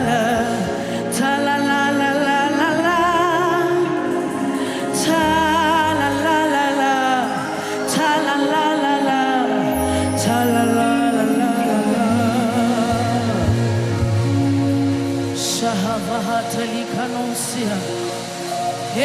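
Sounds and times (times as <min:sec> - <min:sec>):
gospel worship music: 0:00.0 - 0:19.0
person singing with vibrato: 0:00.0 - 0:19.0.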